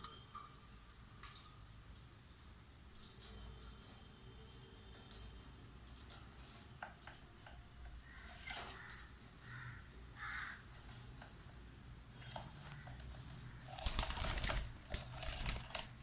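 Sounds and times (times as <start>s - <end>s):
birds tapping on a fan: 0.0s - 16.0s.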